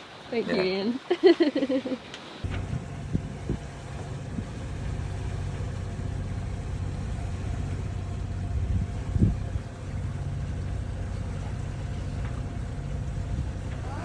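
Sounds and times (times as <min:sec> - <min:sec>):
boat engine droning: 0:02.0 - 0:14.0.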